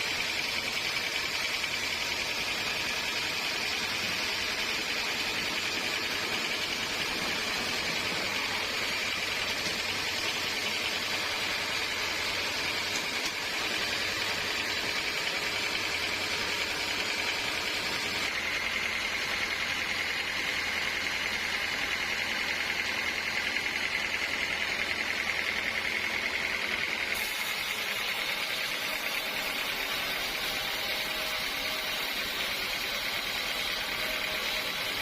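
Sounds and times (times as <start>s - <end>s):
sawmill saw cutting log: 0.0s - 35.0s.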